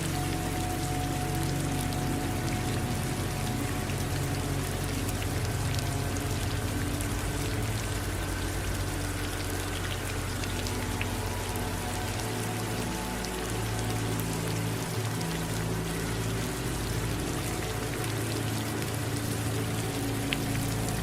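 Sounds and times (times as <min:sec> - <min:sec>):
low steady hum: 0:00.0 - 0:21.0
rain drops pattering: 0:00.0 - 0:21.0.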